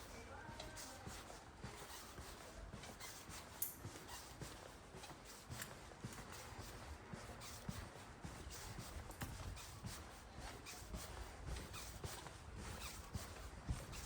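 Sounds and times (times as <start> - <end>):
faint footsteps: 0.0 - 14.0.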